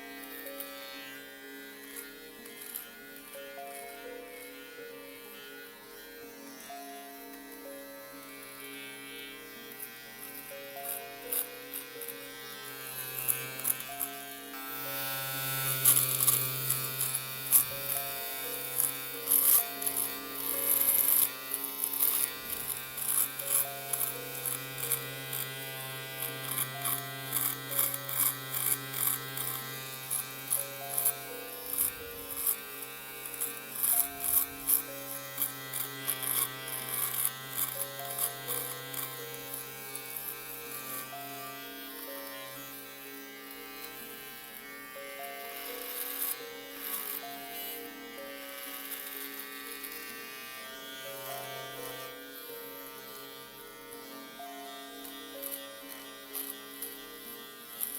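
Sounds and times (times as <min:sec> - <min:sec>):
electric shaver buzzing: 0:00.0 - 0:57.9
shaver clicks cutting hair: 0:00.0 - 0:57.9.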